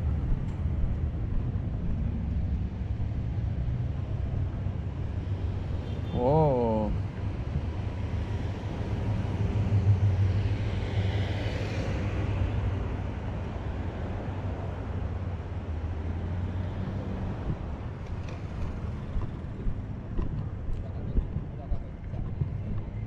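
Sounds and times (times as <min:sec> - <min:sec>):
general traffic noise: 0:00.0 - 0:23.0.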